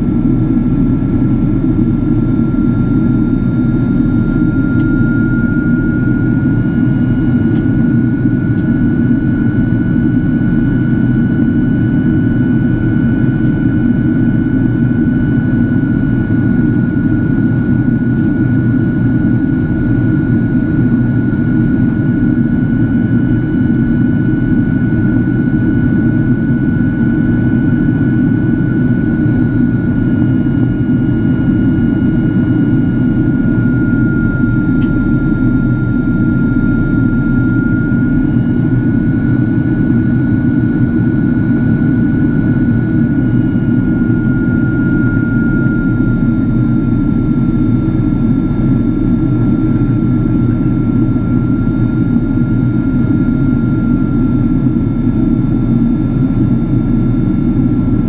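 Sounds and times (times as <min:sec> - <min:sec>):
aircraft cabin engine rumble: 0:00.0 - 0:58.0.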